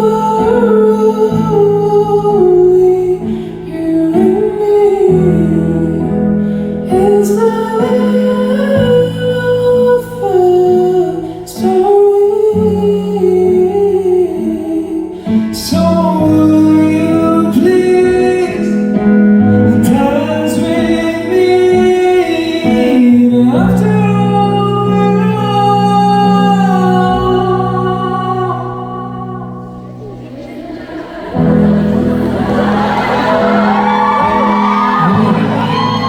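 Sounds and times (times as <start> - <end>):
person singing: 0.0 - 36.0.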